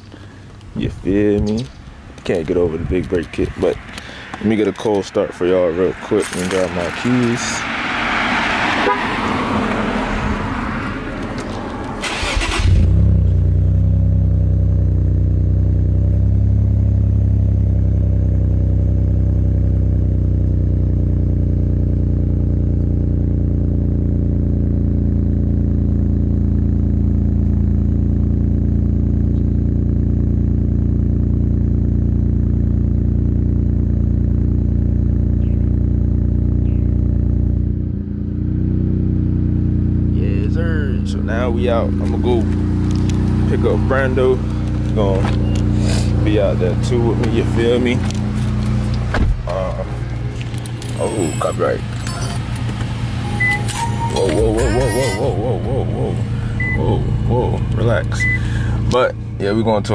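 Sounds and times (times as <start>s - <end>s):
car engine starting and idling: 0.0s - 59.9s.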